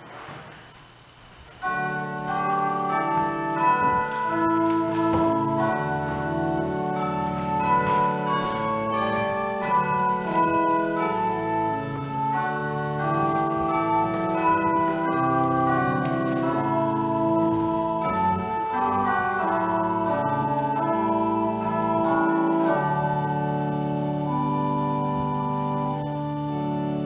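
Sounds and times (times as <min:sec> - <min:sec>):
organ playing slow chords: 0:01.5 - 0:27.0.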